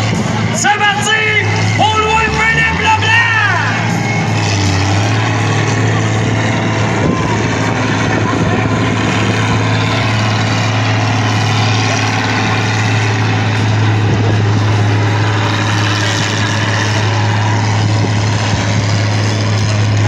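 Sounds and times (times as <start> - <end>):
heavy engine droning: 0.0 - 20.0.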